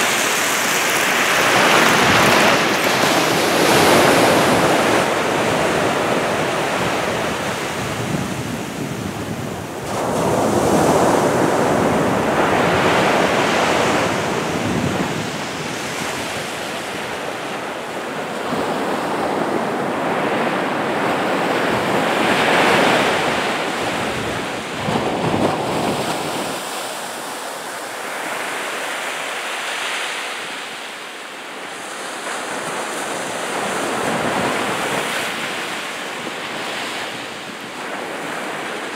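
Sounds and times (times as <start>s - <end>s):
small waves washing up beach: 0.0s - 38.9s.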